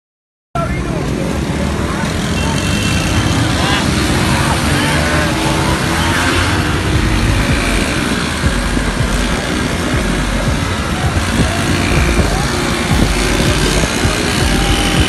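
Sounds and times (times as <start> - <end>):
car and motorcycle engines: 0.6 - 15.0
road and wind noise: 0.6 - 15.0.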